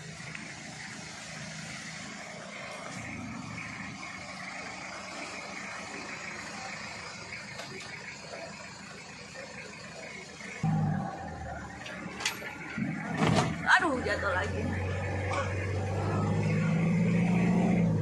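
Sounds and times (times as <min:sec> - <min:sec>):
jeep engine idling: 0:00.0 - 0:18.0.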